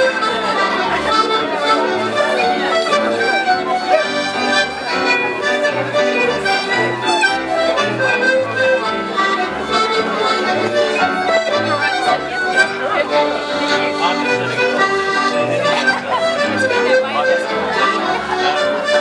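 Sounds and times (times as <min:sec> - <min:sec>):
accordion dance music: 0:00.0 - 0:19.0.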